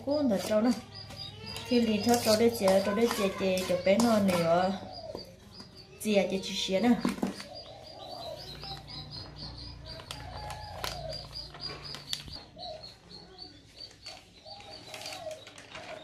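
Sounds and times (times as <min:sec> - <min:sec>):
birds cooing: 0:00.0 - 0:16.0
high bird chirps: 0:00.0 - 0:16.0.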